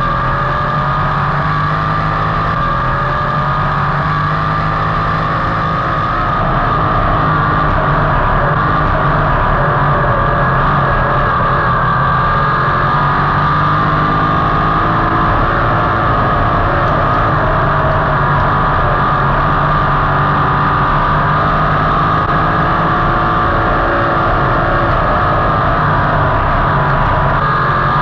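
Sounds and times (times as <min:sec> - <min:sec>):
racing car engines droning: 0:00.0 - 0:28.0.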